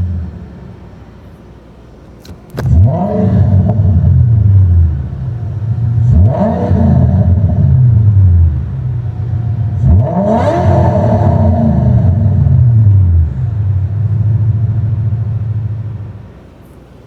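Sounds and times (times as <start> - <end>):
car engine revving: 2.2 - 16.3.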